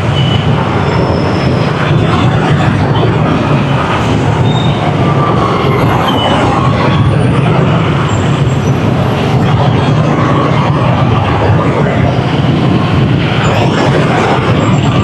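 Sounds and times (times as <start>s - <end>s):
road rumble: 0.0s - 15.0s
vehicle engines: 0.0s - 15.0s.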